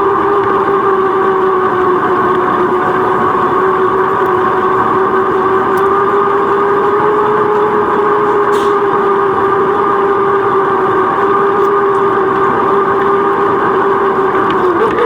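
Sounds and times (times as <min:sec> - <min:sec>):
steady whistling hum: 0:00.0 - 0:15.0
wind rushing while cycling: 0:00.0 - 0:15.0.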